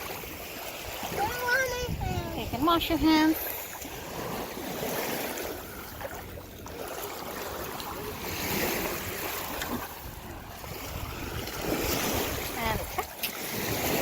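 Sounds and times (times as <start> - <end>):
sea waves washing onto beach: 0.0 - 14.0.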